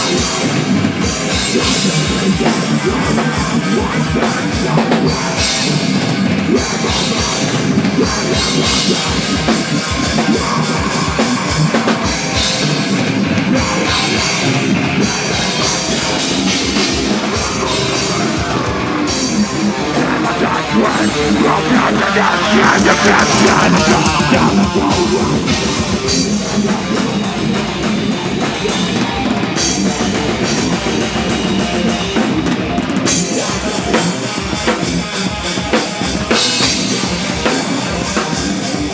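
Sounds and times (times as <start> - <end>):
drum kit beats: 0.0 - 38.9
electric guitar: 0.0 - 38.9
rock band playing: 0.0 - 38.9.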